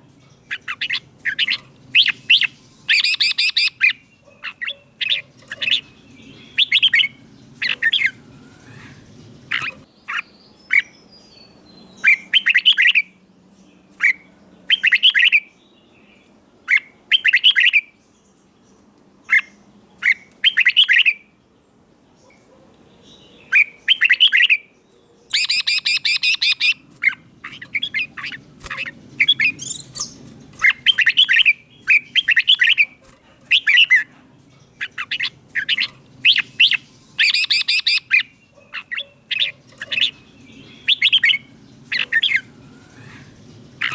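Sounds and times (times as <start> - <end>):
bird singing bright phrases: 0.0 - 43.9.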